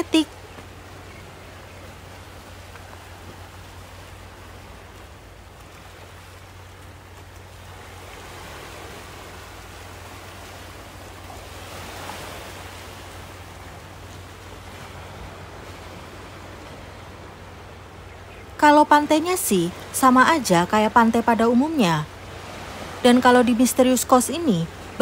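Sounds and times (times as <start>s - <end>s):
sea waves on rocky shore: 0.0s - 25.0s.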